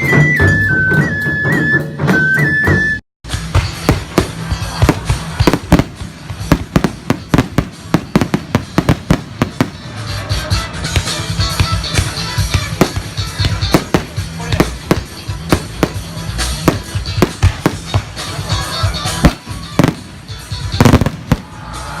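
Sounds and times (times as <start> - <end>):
music playing: 0.0 - 22.0
fireworks bangs: 3.3 - 22.0
fireworks crackling: 3.3 - 22.0.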